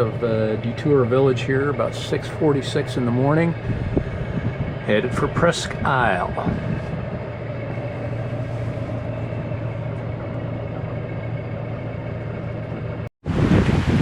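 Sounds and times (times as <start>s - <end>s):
boat diesel engine humming: 0.0s - 14.0s.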